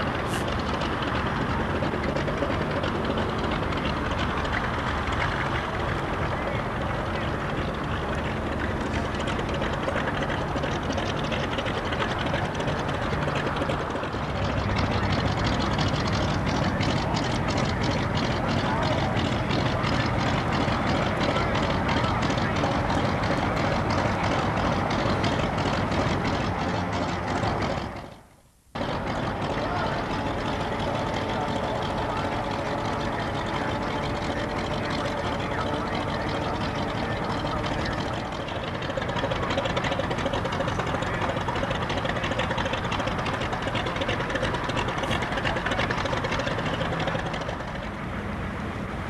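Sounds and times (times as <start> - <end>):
engine running: 0.0 - 49.0
outdoor background noise: 0.0 - 49.0.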